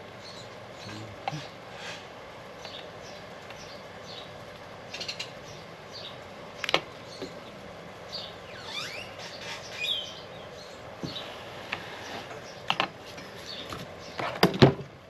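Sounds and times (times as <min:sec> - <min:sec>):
outdoor background hiss: 0:00.0 - 0:15.0
birds chirping and whistling: 0:00.2 - 0:04.3, 0:04.9 - 0:07.5, 0:08.1 - 0:12.7, 0:13.3 - 0:14.4.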